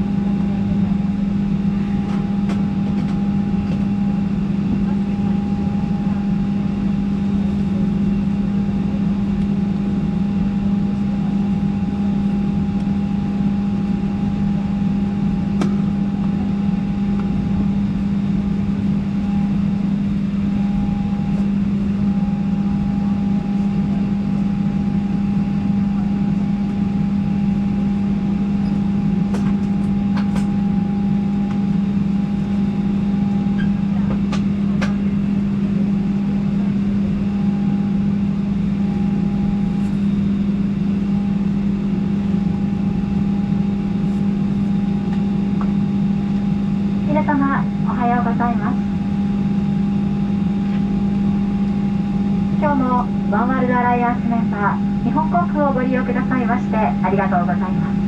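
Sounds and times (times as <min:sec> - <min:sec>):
airplane cabin drone: 0:00.0 - 0:58.0
thin steady whine: 0:00.0 - 0:58.0.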